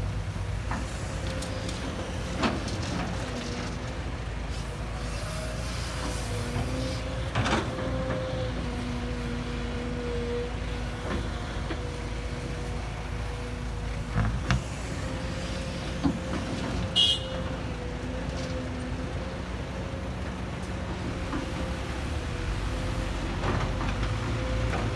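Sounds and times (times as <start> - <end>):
excavator engine whining: 0.1 - 24.9.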